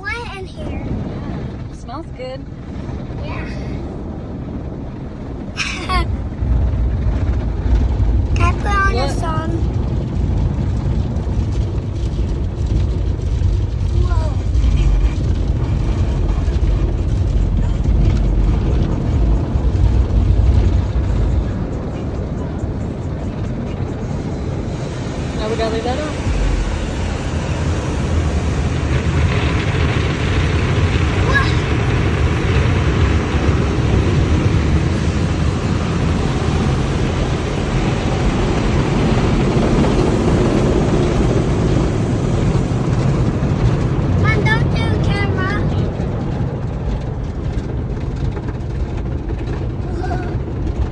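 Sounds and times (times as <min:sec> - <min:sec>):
car wash rumble from inside car: 0:00.0 - 0:50.9.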